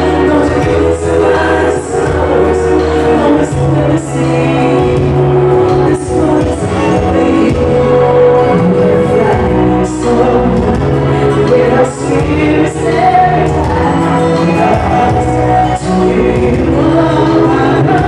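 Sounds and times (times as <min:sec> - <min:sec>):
amplified backing music: 0:00.0 - 0:18.0
woman singing into a microphone: 0:00.0 - 0:18.0.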